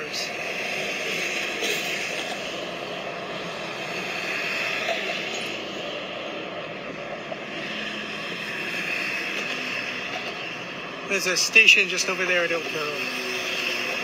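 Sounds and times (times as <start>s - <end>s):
diesel train drone on bridge: 0.0s - 14.0s.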